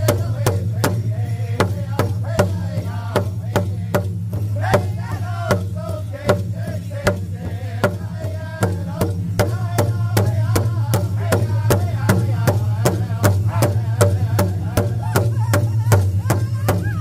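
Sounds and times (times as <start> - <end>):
big drum beating: 0.0 - 17.0
group singing in high voices: 0.0 - 17.0.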